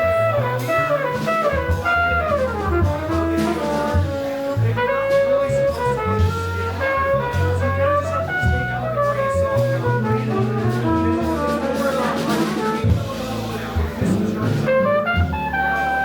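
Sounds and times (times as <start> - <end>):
brass horn lines: 0.0 - 13.7, 14.5 - 16.0
drum kit: 0.0 - 16.0.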